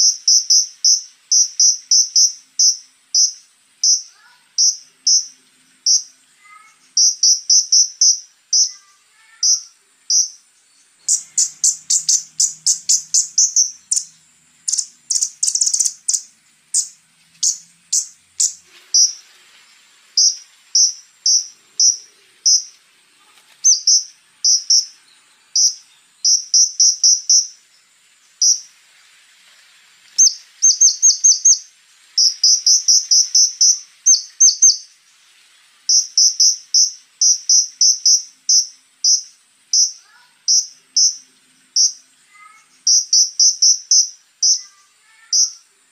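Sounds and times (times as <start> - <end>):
bird high chirps and rattles: 0.0 - 27.6, 28.3 - 28.8, 30.0 - 35.0, 35.8 - 45.7
high insect-like buzz: 0.0 - 45.9.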